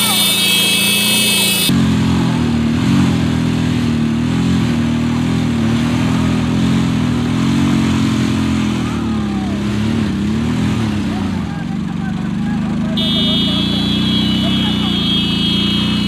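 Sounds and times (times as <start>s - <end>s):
motorcycle engines revving high: 0.0s - 16.0s.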